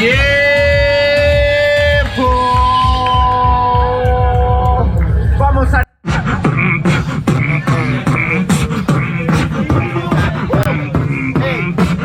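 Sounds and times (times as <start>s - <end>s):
person beatboxing: 0.0s - 5.3s, 5.9s - 12.0s.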